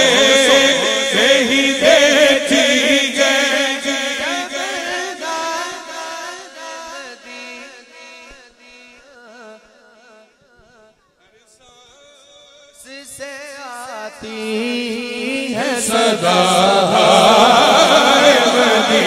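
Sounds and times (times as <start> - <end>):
man singing over a pa: 0.0 - 19.0.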